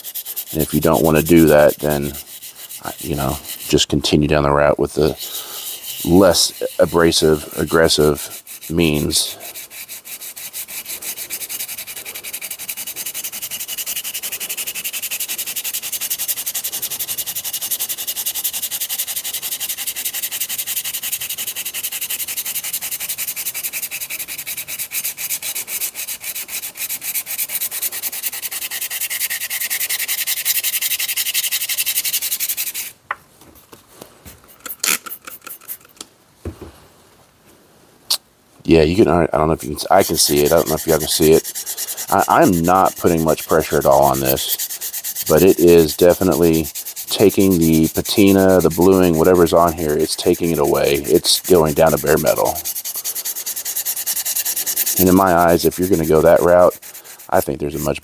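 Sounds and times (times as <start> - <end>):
sandpaper rasping on metal: 0.0 - 33.0, 34.5 - 36.0, 38.9 - 58.0.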